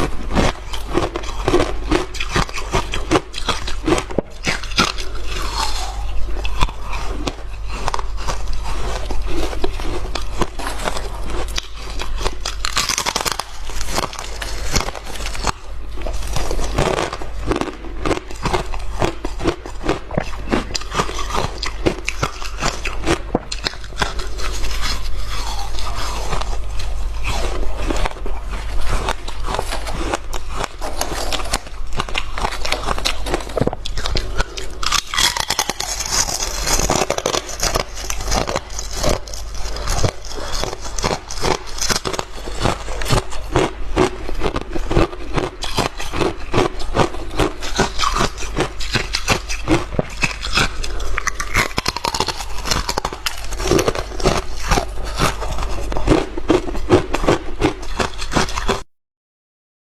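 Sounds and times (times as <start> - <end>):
person crunching ice: 0.0 - 58.8.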